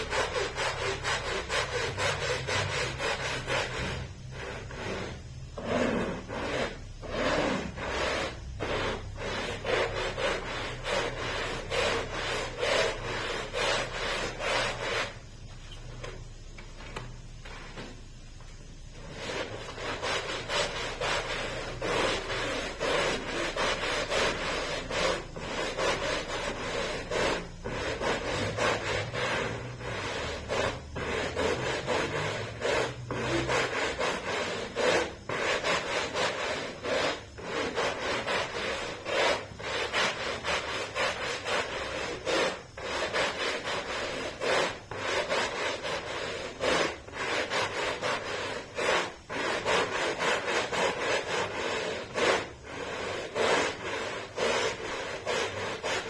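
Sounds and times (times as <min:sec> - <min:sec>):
hand scrubbing carpet: 0:00.0 - 0:56.0.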